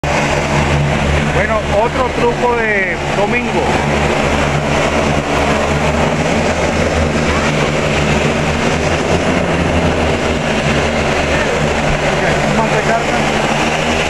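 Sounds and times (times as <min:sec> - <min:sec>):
mechanical drone with low hum: 0:00.0 - 0:14.0.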